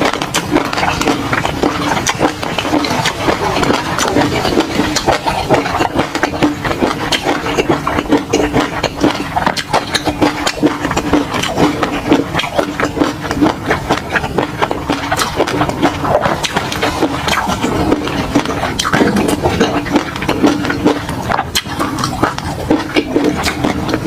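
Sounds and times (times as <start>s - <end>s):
steady low hum: 0.0s - 24.0s
wet chewing and mouth clicks: 0.0s - 24.0s.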